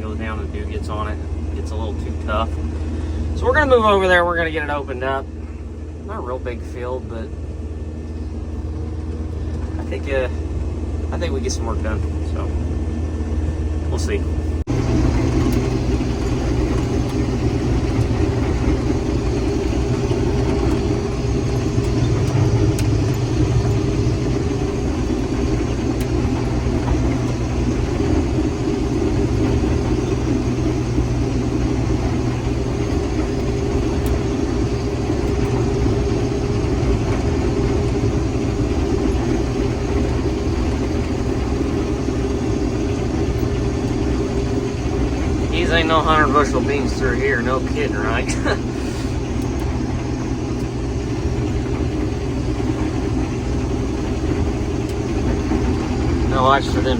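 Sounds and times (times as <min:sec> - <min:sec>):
combine harvester droning: 0:00.0 - 0:56.9.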